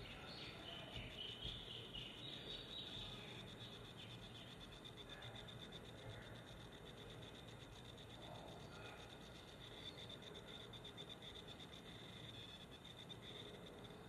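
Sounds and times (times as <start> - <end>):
faint high-pitched chirping: 0.0 - 14.0.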